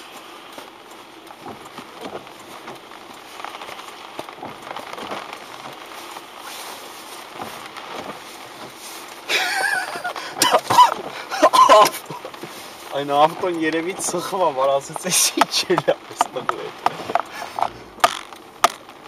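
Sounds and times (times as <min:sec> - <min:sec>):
rain pattering on car roof: 0:00.0 - 0:19.0.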